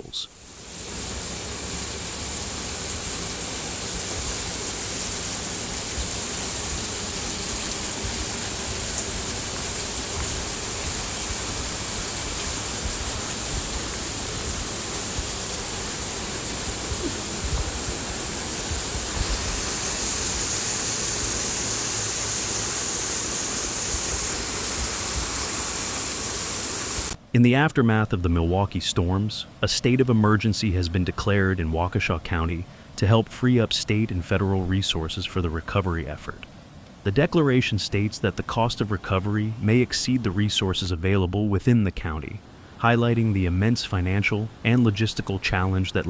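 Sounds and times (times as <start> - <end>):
water rushing: 0.0 - 27.2, 27.9 - 46.0.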